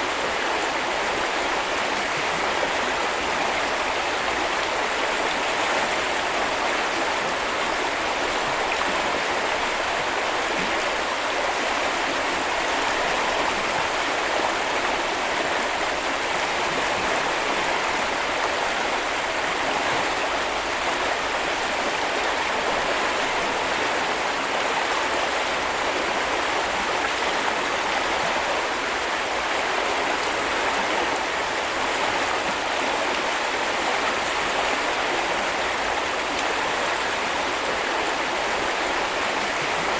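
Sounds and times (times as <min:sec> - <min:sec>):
brook flowing over stones: 0:00.0 - 0:39.9.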